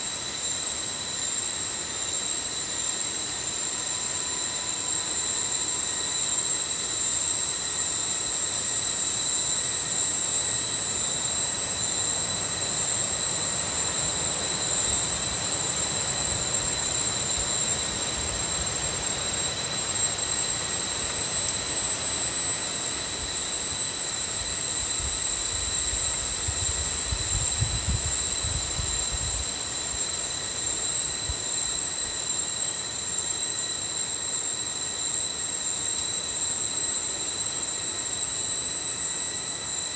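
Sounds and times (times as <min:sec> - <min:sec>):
forest insects droning: 0:00.0 - 0:39.9.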